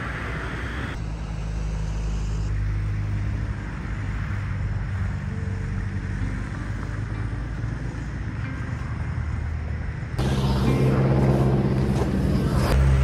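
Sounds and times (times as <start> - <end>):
loud rush of car noise: 0.0 - 13.0
passing cars: 0.0 - 13.0.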